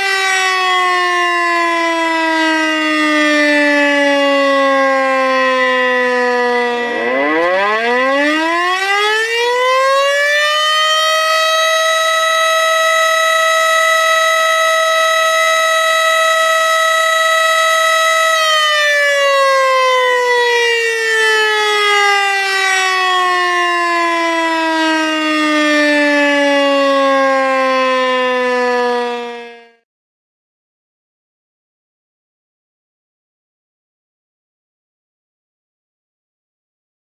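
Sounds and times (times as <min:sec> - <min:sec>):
warning siren wailing: 0:00.0 - 0:29.8.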